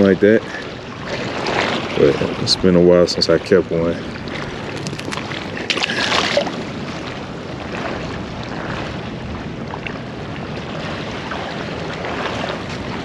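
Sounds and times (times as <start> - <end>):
water along pier: 0.0 - 13.0
wind on microphone: 0.0 - 13.0.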